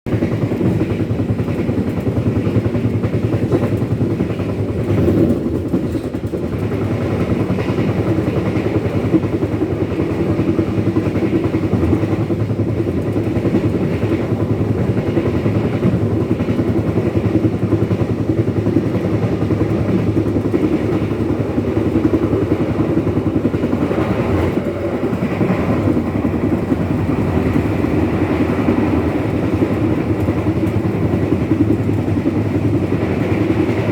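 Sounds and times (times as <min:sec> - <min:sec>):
train rumbling on track: 0:00.1 - 0:33.9.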